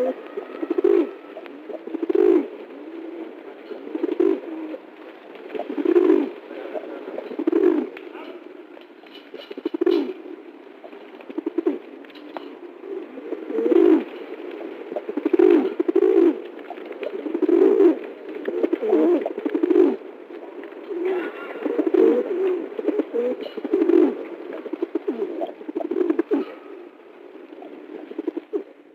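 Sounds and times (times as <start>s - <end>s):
pigeon cooing: 0.0s - 20.1s, 20.8s - 28.8s.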